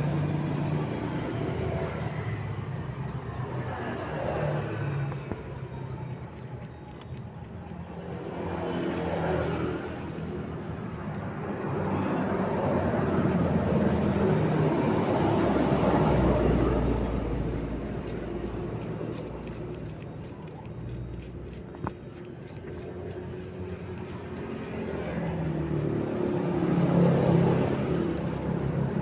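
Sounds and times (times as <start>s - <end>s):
vehicle engine noise: 0.0s - 29.0s.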